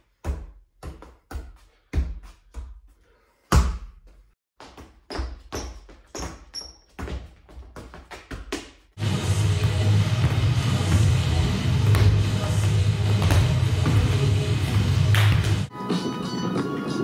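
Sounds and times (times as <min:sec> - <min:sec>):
football thudding on shoes and floor: 0:00.1 - 0:02.9, 0:03.5 - 0:08.9, 0:09.6 - 0:15.7.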